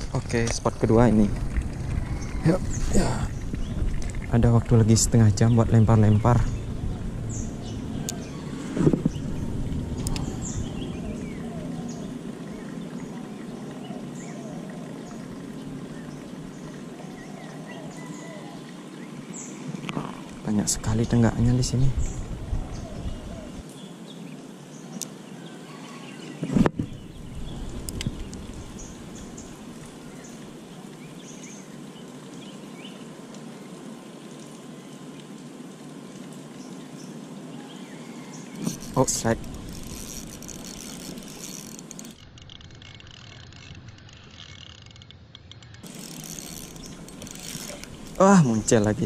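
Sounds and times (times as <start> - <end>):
birds chirping faintly: 0.0 - 49.0
outdoor background noise: 0.0 - 49.0.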